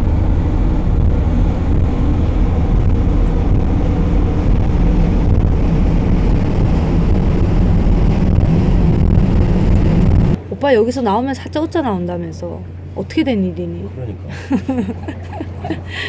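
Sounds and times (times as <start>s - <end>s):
ship engines droning: 0.0s - 16.0s.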